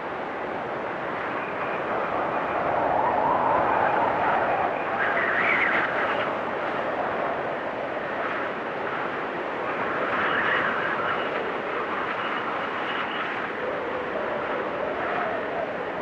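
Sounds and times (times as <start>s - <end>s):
storm wind howling: 0.0s - 16.0s.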